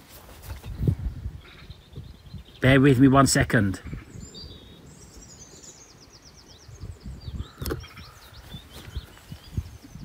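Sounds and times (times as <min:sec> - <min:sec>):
birds singing: 0:00.5 - 0:10.0.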